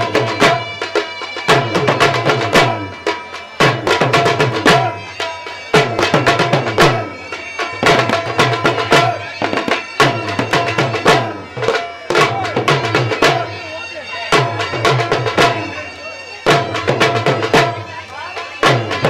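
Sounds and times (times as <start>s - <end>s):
dhol drum playing: 0.0s - 19.0s
droning wind instrument: 0.0s - 19.0s.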